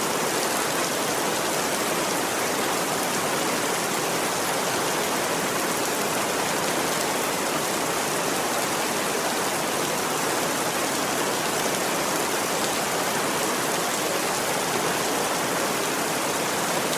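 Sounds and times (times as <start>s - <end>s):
heavy rain: 0.0s - 16.9s.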